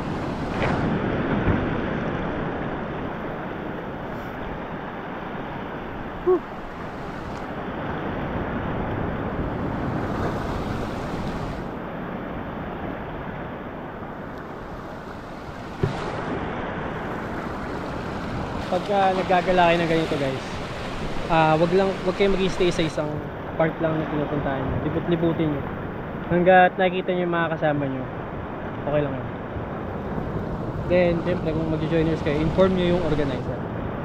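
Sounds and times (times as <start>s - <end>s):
surf breaking over rocks: 0.0s - 11.8s, 14.2s - 25.6s, 28.6s - 34.0s
wind buffeting microphone: 0.0s - 26.3s, 28.0s - 34.0s.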